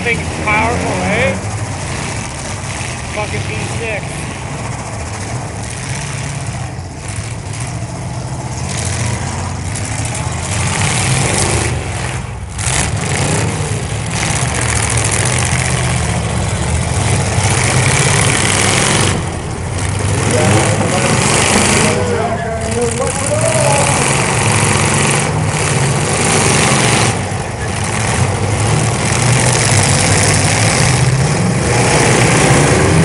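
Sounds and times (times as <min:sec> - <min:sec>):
car engines running and revving: 0:00.0 - 0:33.0.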